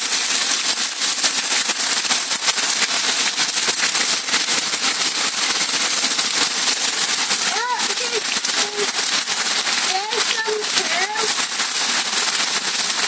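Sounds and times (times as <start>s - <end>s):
hailstones clattering: 0.0s - 13.0s
heavy rain hiss: 0.0s - 13.0s.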